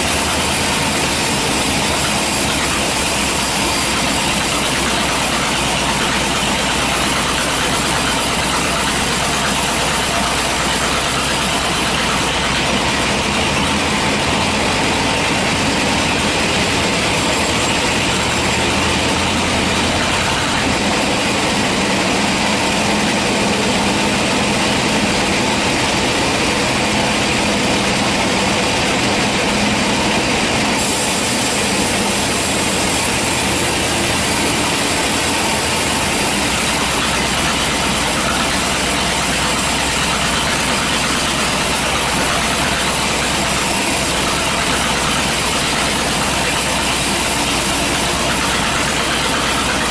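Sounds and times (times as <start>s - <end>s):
band saw cutting log: 0.0s - 49.9s.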